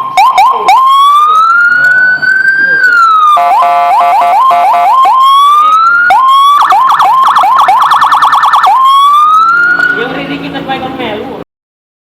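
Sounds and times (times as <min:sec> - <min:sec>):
electronic siren chirps and wail: 0:00.0 - 0:10.2.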